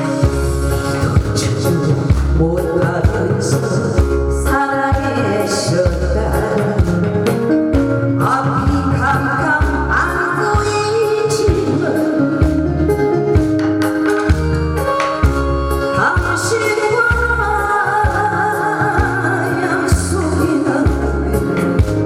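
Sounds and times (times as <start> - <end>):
backing track with drums and bass: 0.0 - 22.0
person singing: 0.0 - 22.0.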